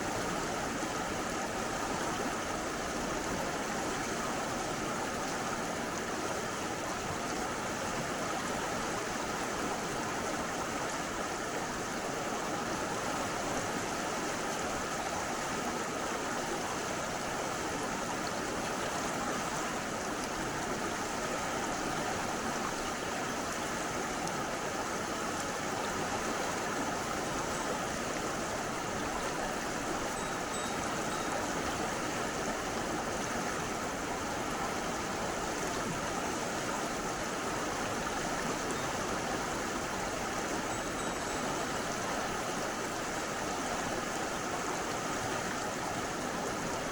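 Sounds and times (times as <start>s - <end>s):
stream rushing: 0.0s - 46.9s.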